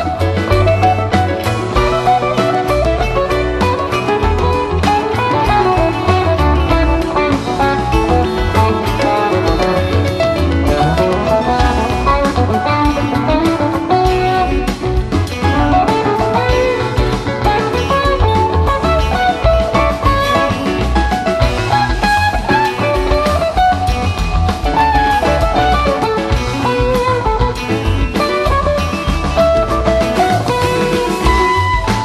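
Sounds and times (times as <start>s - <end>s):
bass guitar: 0.0s - 32.0s
drum kit: 0.0s - 32.0s
electric guitar lead lines: 0.0s - 32.0s.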